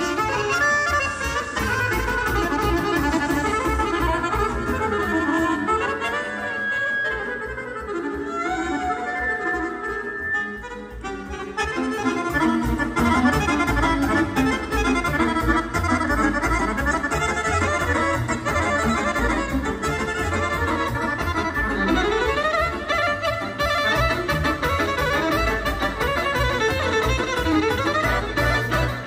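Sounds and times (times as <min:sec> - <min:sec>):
accordion dance music: 0:00.0 - 0:29.0.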